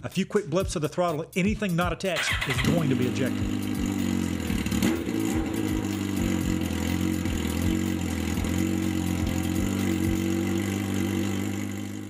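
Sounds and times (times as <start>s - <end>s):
motorcycle engine idling: 2.2s - 12.0s.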